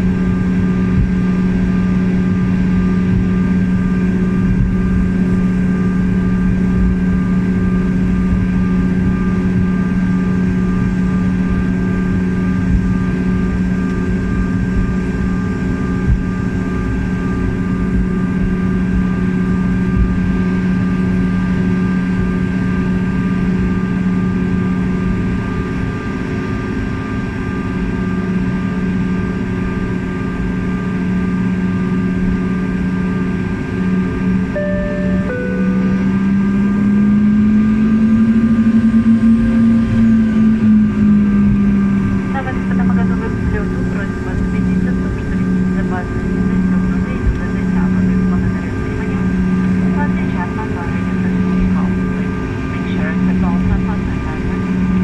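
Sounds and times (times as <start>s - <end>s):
airliner engine hum: 0.0s - 55.0s
low cabin rumble: 0.0s - 55.0s.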